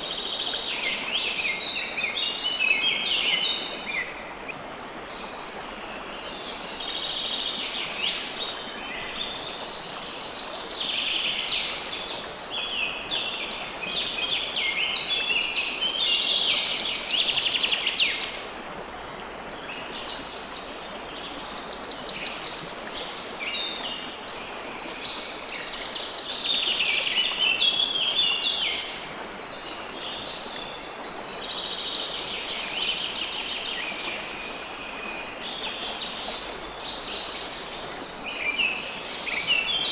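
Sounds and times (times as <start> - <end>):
running water: 0.0 - 39.9
songbirds trilling and warbling: 0.0 - 39.9.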